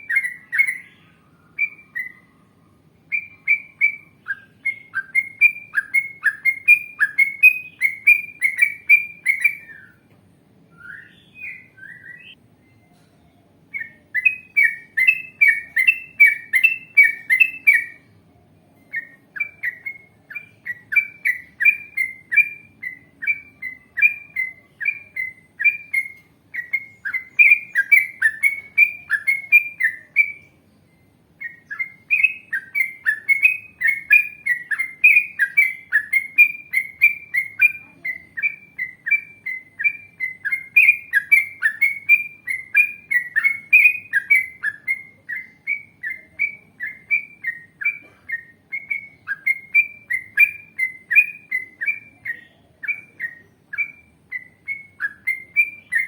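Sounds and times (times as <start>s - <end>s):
bird singing chattering notes: 0.0s - 10.1s, 10.8s - 56.0s.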